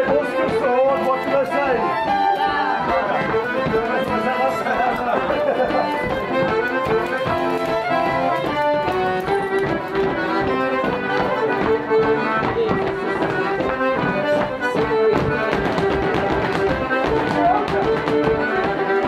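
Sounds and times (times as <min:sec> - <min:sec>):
dancers' stepping taps: 0:00.0 - 0:19.0
fiddle: 0:00.0 - 0:19.0
folk dance tune on accordion: 0:00.0 - 0:19.0.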